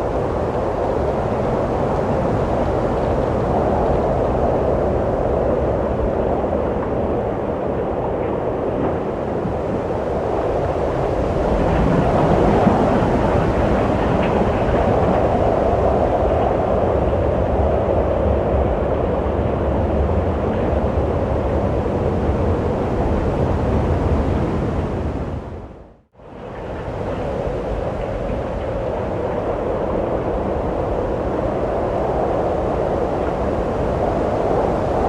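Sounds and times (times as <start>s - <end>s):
wind blowing low rush: 0.0s - 35.0s.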